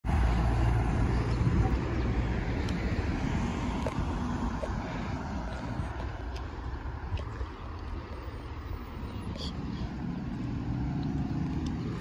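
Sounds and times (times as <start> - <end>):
light road traffic: 0.0 - 12.0.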